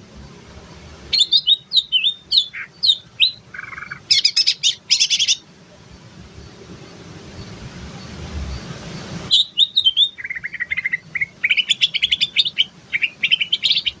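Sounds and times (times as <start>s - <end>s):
low rumbling noise: 0.0s - 4.1s, 4.8s - 12.9s
bird singing rapid chattering song: 1.1s - 14.0s.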